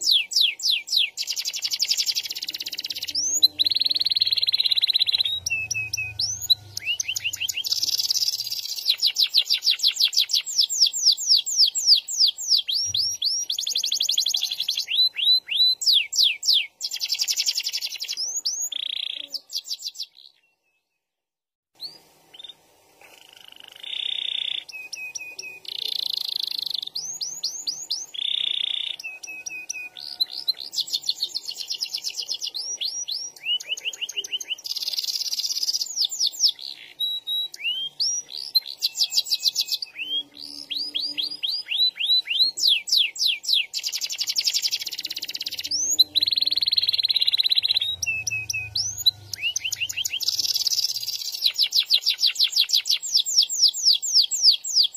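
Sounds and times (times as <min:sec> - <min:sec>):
canary singing: 0:00.0 - 0:20.9, 0:21.8 - 0:54.9.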